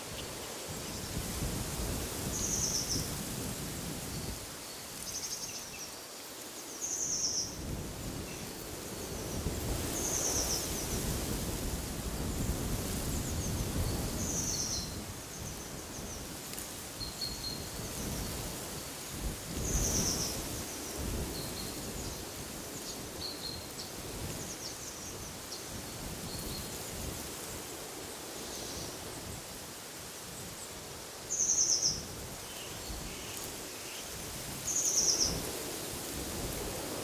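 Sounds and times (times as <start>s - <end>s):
wind in trees: 0.0s - 37.0s.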